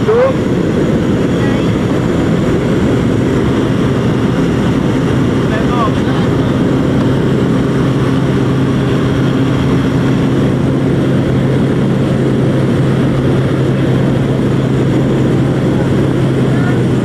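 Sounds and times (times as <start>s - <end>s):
propeller aircraft engine: 0.0s - 17.0s.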